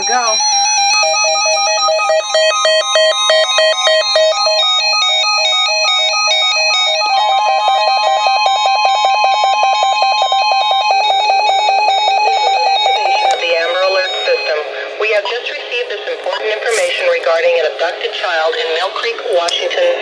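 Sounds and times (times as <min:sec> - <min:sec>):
electronic alarm beeping: 0:00.0 - 0:19.0
steady warning tone: 0:00.0 - 0:20.0.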